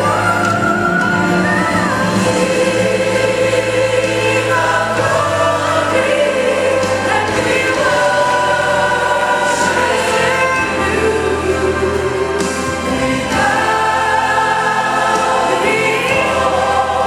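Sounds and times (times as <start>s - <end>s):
choir singing held notes: 0.0s - 17.0s
instrumental backing with bass: 0.0s - 17.0s.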